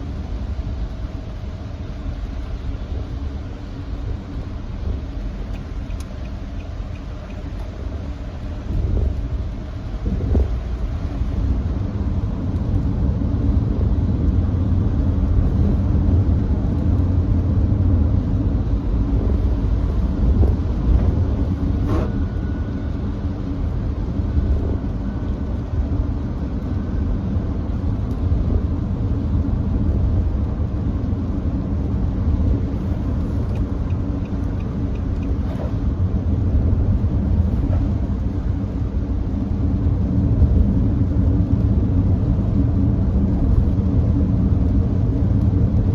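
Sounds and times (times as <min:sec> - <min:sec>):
road and tyre noise: 0:00.0 - 0:45.9.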